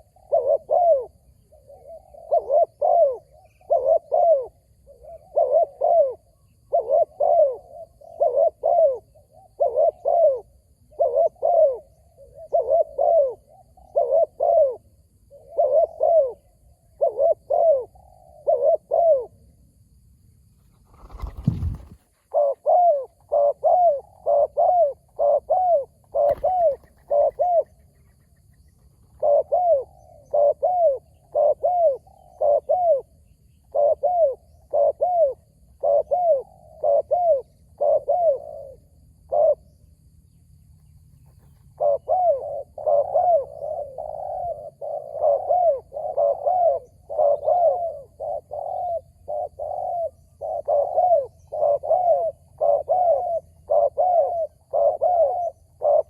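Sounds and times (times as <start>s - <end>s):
dove cooing: 0.0s - 19.6s, 20.7s - 40.0s, 41.2s - 56.0s.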